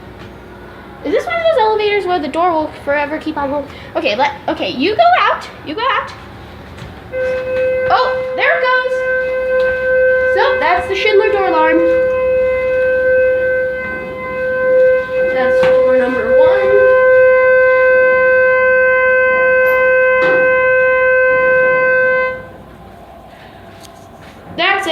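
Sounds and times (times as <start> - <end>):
elevator door alarm tone: 0.0 - 24.9.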